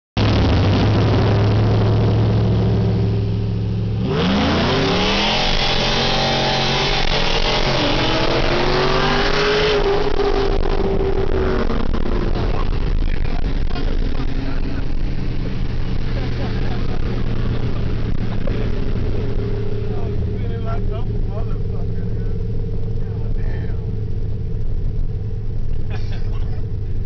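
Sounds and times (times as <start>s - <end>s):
car engine revving: 0.2s - 27.0s.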